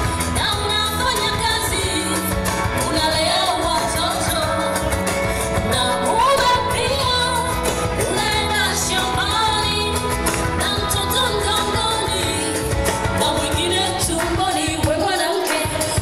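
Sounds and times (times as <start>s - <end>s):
instrumental backing music: 0.0s - 16.0s
woman singing into microphone: 0.0s - 16.0s.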